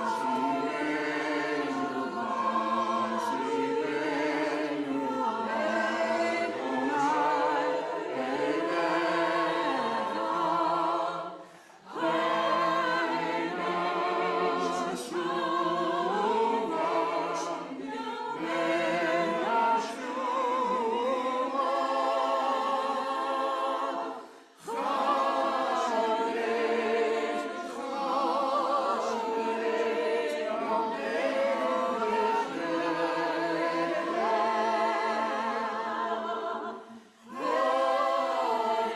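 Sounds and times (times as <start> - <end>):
choir singing unaccompanied: 0.0 - 38.9.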